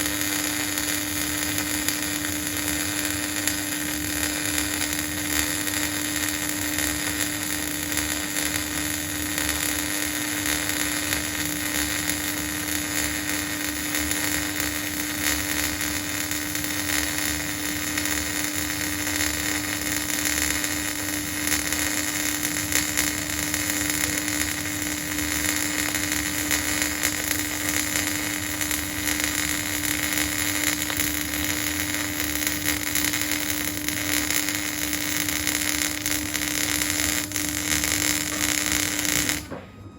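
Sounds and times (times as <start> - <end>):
welding arc hissing: 0.0 - 39.5.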